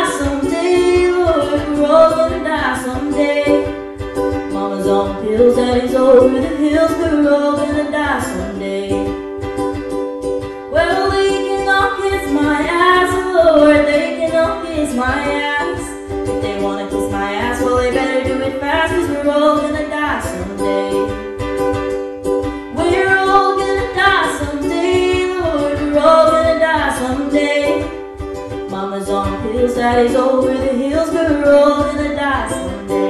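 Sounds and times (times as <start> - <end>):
woman singing into microphone: 0.0 - 9.2, 10.7 - 21.4, 22.6 - 28.0, 28.7 - 33.0
ukulele strumming: 0.0 - 33.0.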